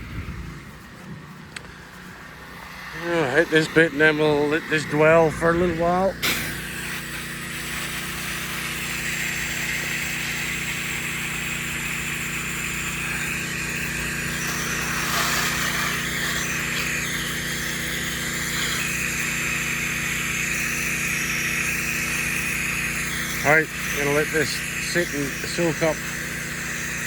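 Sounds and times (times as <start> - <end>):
pump engine running: 0.0 - 27.0
hissing spray: 0.6 - 27.0.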